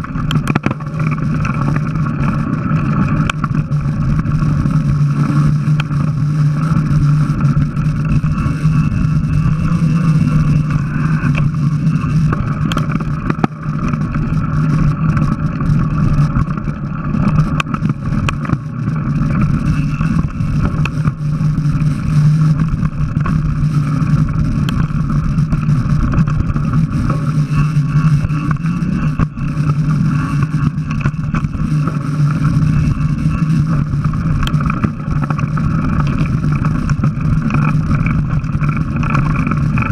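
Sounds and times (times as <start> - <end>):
wind and tyre rumble: 0.0 - 39.9.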